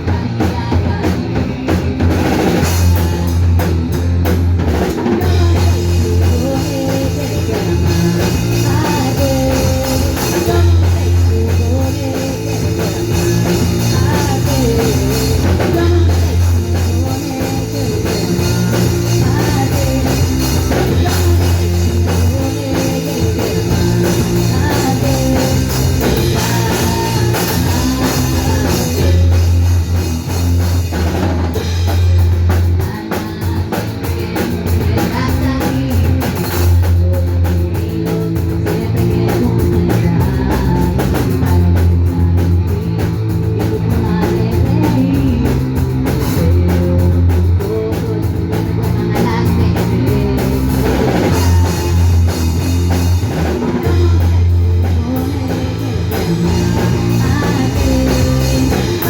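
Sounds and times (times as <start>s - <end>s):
drum kit beat: 0.0s - 59.0s
live rock band playing: 0.0s - 59.0s.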